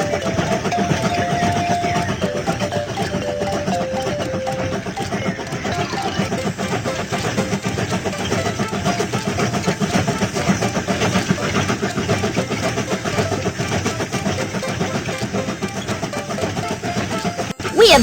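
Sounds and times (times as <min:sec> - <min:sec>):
cartoon train engine chugging: 0:00.0 - 0:18.0.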